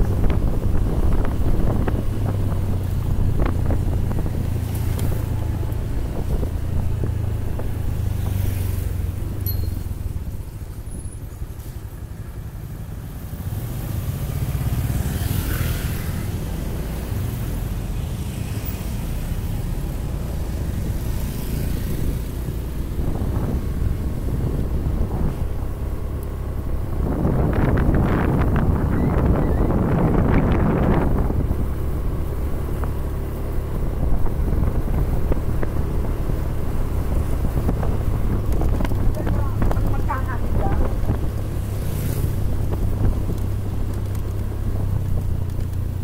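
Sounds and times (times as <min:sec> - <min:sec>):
wind buffeting microphone: 0:00.0 - 0:11.3, 0:19.2 - 0:46.0
road vehicle rumble: 0:00.0 - 0:46.0.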